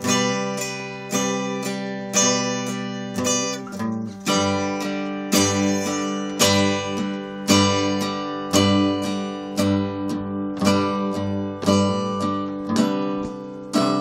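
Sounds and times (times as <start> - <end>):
acoustic guitars strumming chords: 0.0 - 14.0.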